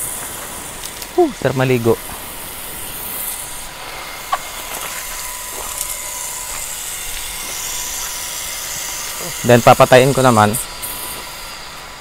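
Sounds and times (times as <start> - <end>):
electric water pump whining: 0.0 - 12.0
water spraying from hose: 0.0 - 12.0.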